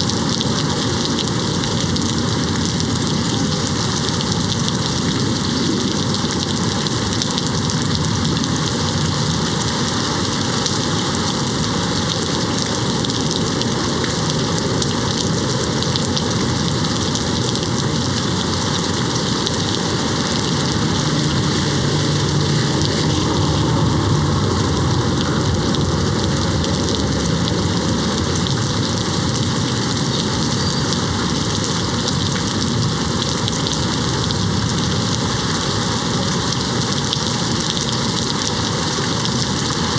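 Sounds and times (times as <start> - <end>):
rain hitting a window: 0.0 - 39.9.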